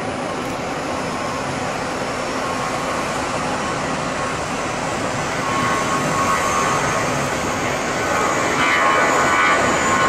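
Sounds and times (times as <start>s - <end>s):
jet engine whine: 0.0s - 10.0s
jet engines rushing: 0.0s - 10.0s.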